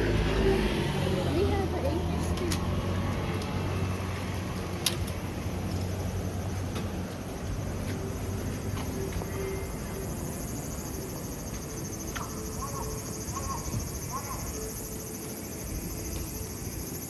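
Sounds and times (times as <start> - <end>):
low engine hum: 0.0 - 14.2
high insect drone: 0.0 - 17.0.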